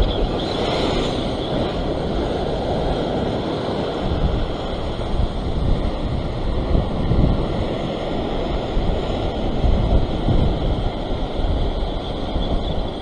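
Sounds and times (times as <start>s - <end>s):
ocean surf breaking on rocks: 0.0s - 13.0s
wind buffeting microphone: 0.0s - 13.0s.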